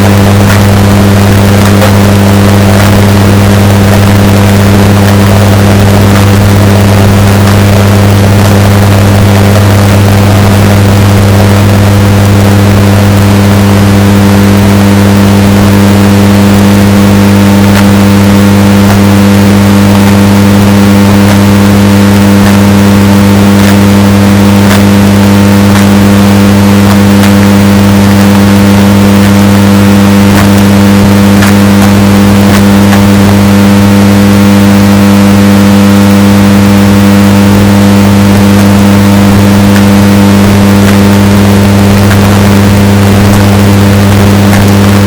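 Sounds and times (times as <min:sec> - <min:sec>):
washing machine hum: 0:00.0 - 0:45.0.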